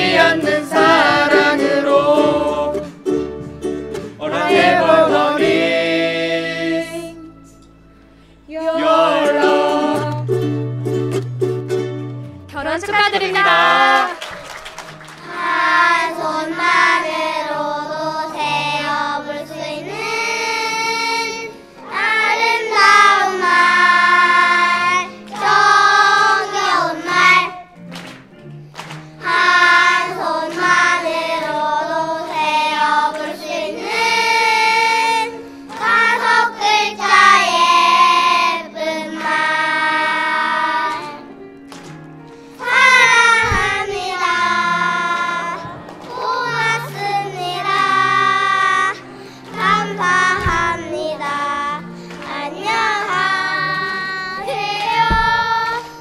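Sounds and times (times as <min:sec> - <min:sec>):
children's choir singing: 0:00.0 - 0:03.1, 0:04.0 - 0:07.5, 0:08.5 - 0:10.4, 0:13.4 - 0:27.8, 0:29.2 - 0:41.4, 0:42.4 - 0:56.0.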